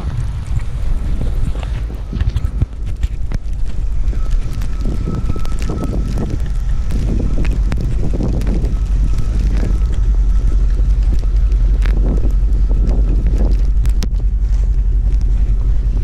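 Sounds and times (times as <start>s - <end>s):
truck engine and road rumble: 0.0s - 16.0s
faint high whine: 1.2s - 16.0s.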